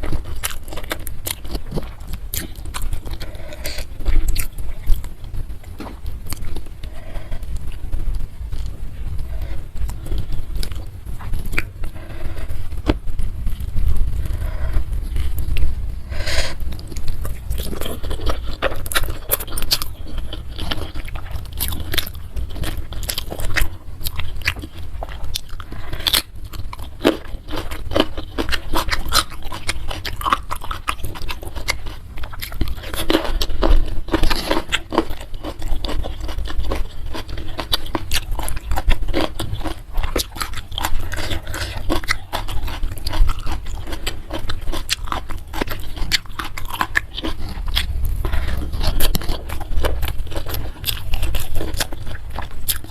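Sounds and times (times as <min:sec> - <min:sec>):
chewing and crunching: 0:00.0 - 0:52.9.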